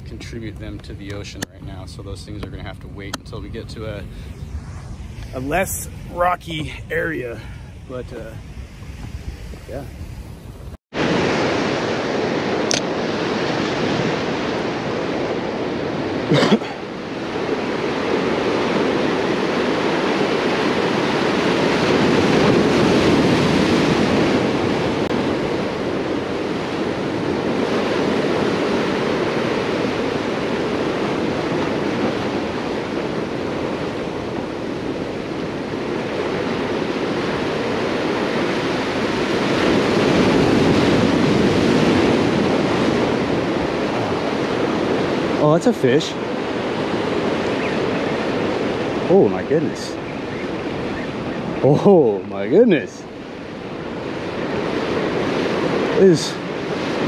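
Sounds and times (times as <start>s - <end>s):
ocean surf breaking over boulders: 0.0s - 57.0s.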